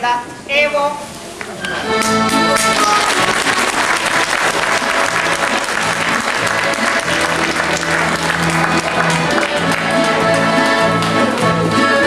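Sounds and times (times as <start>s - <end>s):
music playing: 1.7s - 12.0s
audience applauding: 2.0s - 12.0s.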